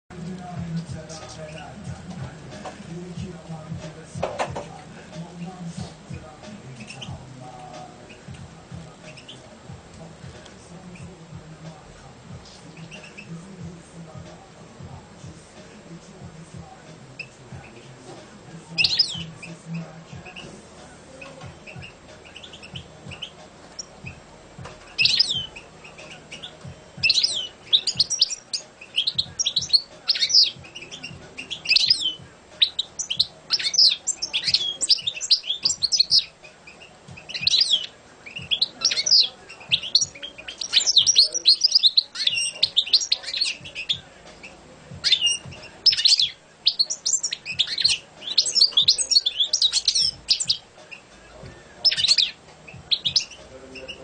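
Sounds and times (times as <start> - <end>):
goldfinch singing: 0.1 - 54.0.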